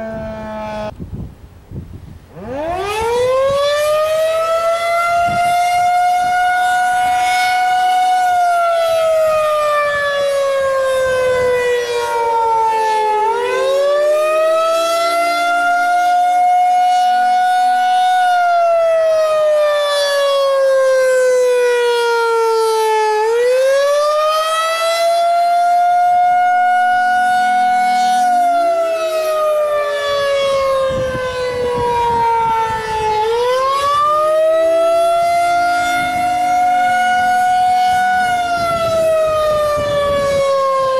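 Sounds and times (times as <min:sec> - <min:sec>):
warning siren rising and falling: 0:00.0 - 0:01.0, 0:02.3 - 0:40.9
distant sirens gliding: 0:00.0 - 0:40.9.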